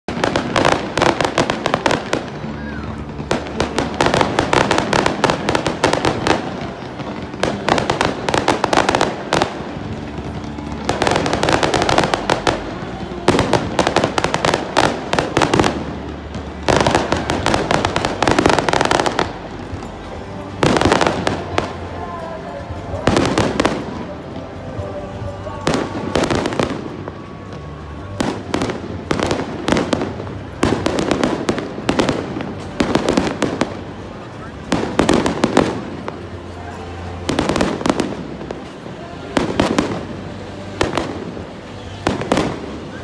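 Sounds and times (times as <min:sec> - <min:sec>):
fireworks bursting and crackling: 0:00.1 - 0:43.0.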